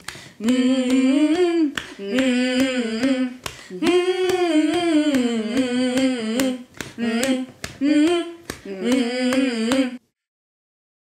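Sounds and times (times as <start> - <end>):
finger snaps keeping time: 0.0 - 10.0
woman humming: 0.0 - 10.0.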